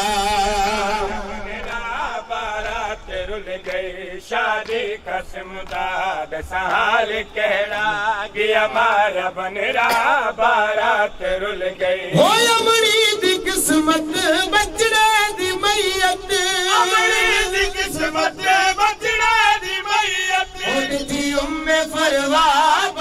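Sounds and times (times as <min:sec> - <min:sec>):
men chanting: 0:00.0 - 0:23.0.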